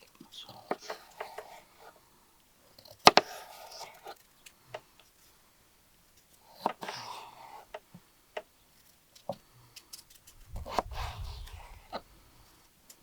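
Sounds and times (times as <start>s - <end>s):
handling and scraping noises: 0.0s - 2.0s, 2.6s - 5.5s, 6.1s - 13.0s.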